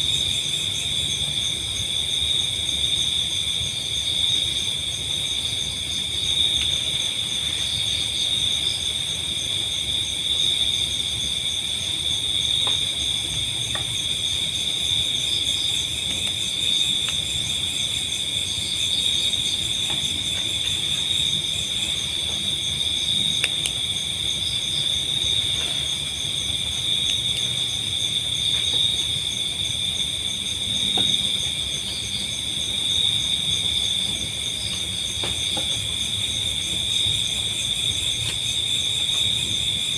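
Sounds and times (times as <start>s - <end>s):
crickets and insects shrilling: 3.7s - 39.9s.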